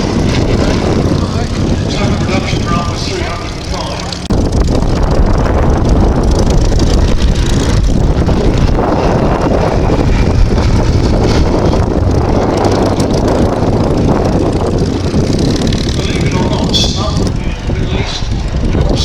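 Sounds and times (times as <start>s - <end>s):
aircraft engine running: 0.0s - 19.0s
wind buffeting microphone: 0.0s - 19.0s.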